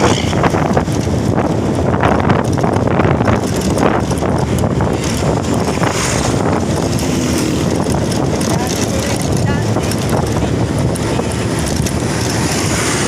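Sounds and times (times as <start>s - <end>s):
heavy vehicles passing: 0.0s - 13.0s
wind buffeting microphone: 0.0s - 13.0s.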